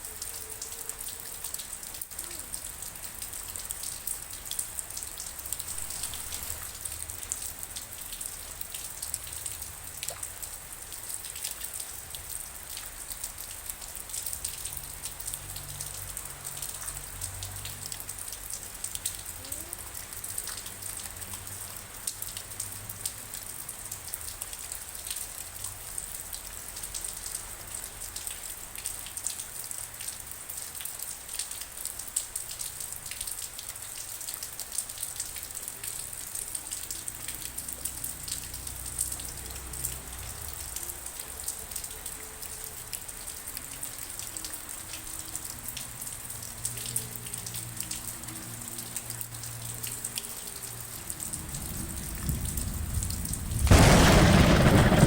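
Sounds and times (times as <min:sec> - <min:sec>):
raindrops ticking on a surface: 0:00.0 - 0:55.0
steady rain: 0:00.0 - 0:55.0.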